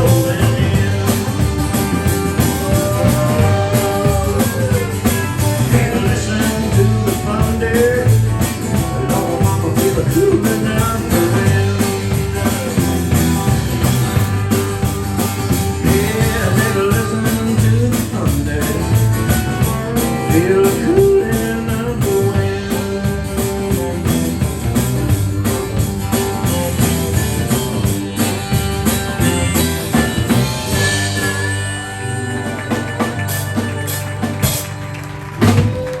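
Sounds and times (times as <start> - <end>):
live band music: 0.0 - 36.0.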